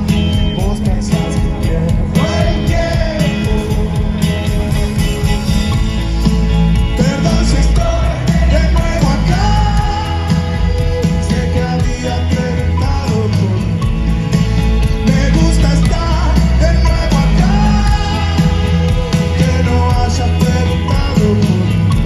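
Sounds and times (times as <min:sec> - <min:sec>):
lead vocal singing: 0:00.0 - 0:05.0, 0:06.2 - 0:22.0
booming bass: 0:00.0 - 0:22.0
live rock band: 0:00.0 - 0:22.0.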